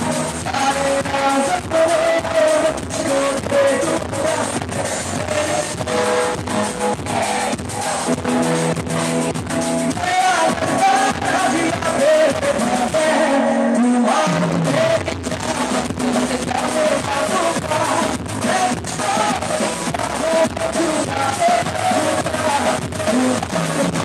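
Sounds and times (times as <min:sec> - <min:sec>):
man singing into microphone: 0:00.0 - 0:09.0, 0:09.8 - 0:24.0
live band music: 0:00.0 - 0:24.0.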